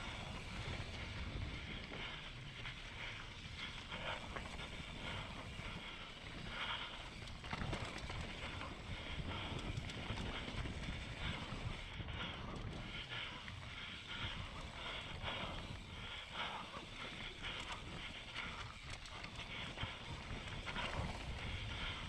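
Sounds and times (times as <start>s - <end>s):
bike rattling: 0.0s - 22.0s
bike tyres on dirt and stones: 0.0s - 22.0s
wind rumble on microphone: 0.0s - 22.0s.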